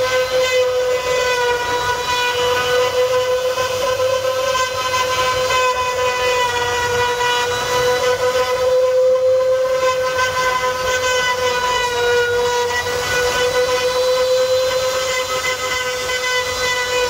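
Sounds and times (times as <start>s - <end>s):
router motor whine: 0.0s - 17.0s.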